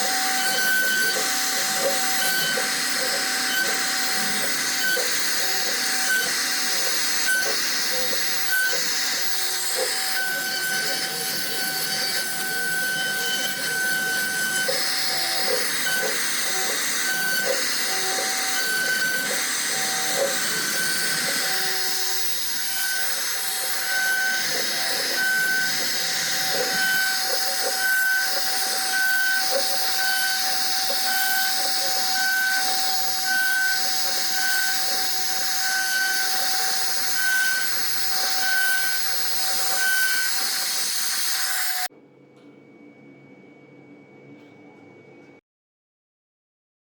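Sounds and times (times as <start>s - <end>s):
router spindle whine: 0.0s - 41.9s.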